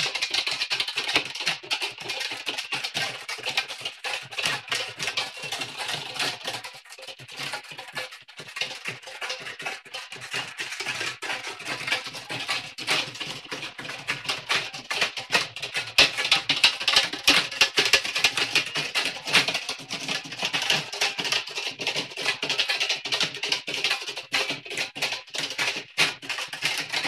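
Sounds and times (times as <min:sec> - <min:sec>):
loud music with rattling percussion: 0:00.0 - 0:27.0.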